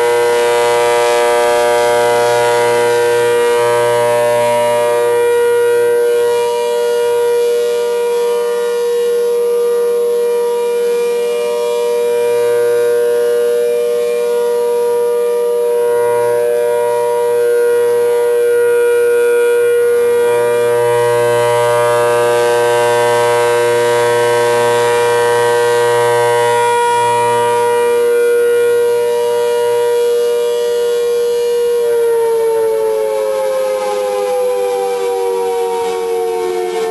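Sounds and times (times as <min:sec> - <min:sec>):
warning siren steady tone: 0:00.0 - 0:36.9.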